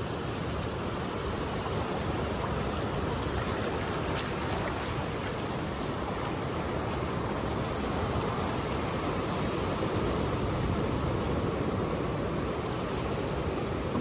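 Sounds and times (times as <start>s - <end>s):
ocean surf washing: 0.0s - 14.0s.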